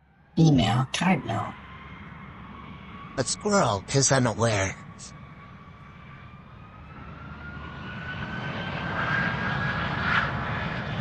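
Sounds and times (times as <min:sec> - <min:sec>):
airplane engine drone: 0:00.0 - 0:11.0
rising engine whine: 0:01.2 - 0:11.0.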